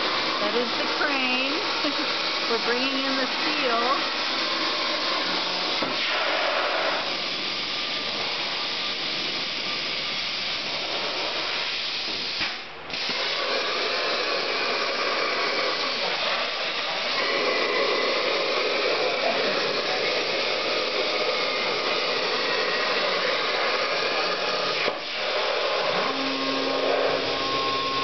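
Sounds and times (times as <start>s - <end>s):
plasma torch cutting steel: 0.0s - 28.0s
rushing hiss of air and machinery: 0.0s - 28.0s.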